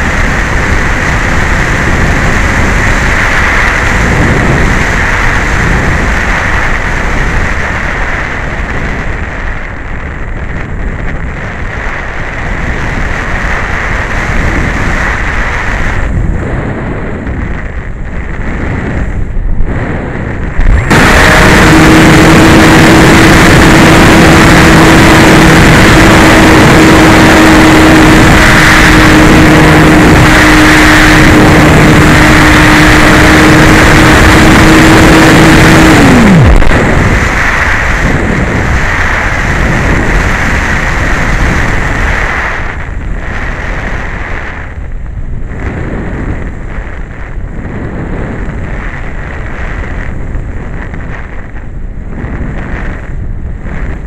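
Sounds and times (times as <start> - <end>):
air rushing over microphone: 0.0 - 54.0
propeller motor droning: 0.0 - 54.0.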